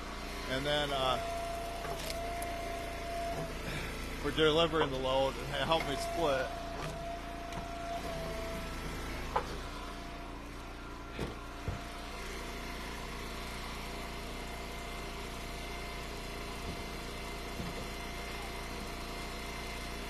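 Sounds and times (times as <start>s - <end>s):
wood splitter engine idling: 0.0s - 20.0s.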